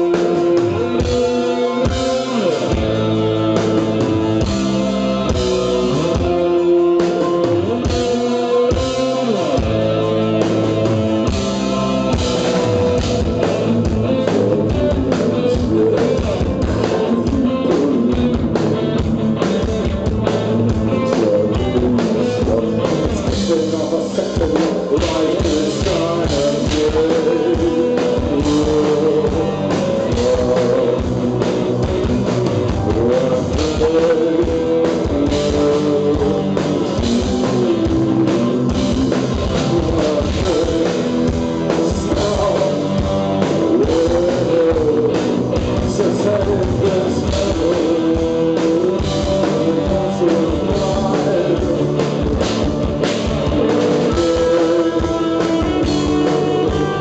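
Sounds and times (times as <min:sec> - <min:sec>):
drum kit steady beat: 0:00.0 - 0:57.0
guitar: 0:00.0 - 0:57.0
man singing: 0:00.0 - 0:57.0.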